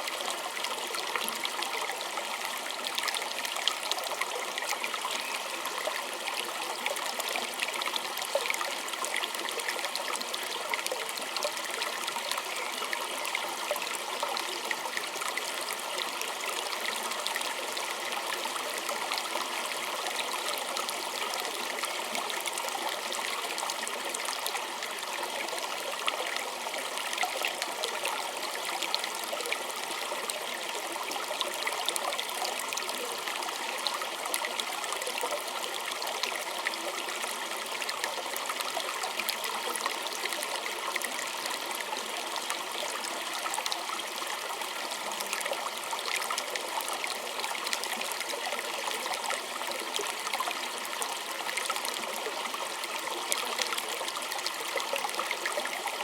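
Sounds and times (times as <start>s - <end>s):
small stream babbling over stones: 0.0s - 56.0s.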